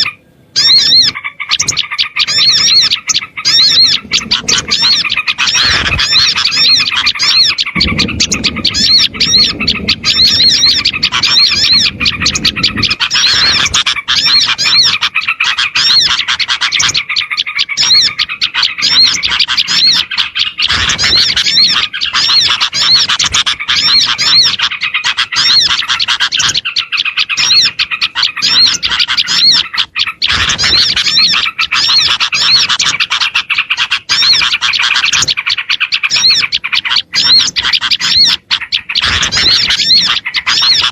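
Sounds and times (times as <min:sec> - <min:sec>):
small songbirds chirping: 0:00.0 - 0:40.9.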